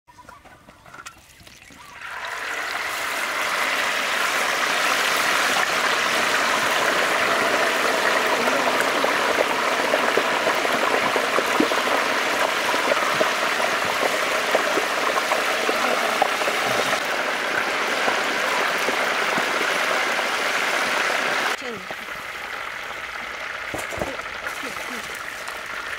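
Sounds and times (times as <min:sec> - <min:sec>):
liquid boiling in a wok: 0:01.7 - 0:25.9.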